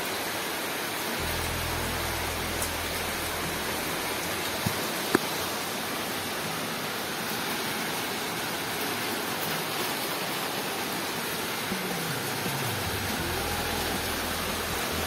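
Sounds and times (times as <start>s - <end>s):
rain falling on trees and roof: 0.0s - 15.0s.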